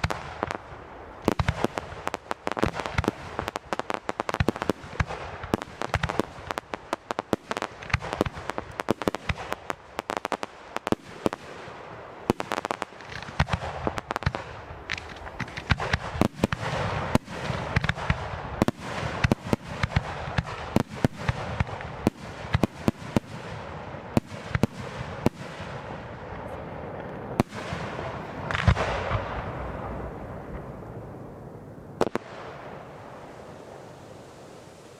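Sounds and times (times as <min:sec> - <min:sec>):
fireworks bangs: 0:00.0 - 0:34.9
fireworks crackle: 0:00.0 - 0:34.9.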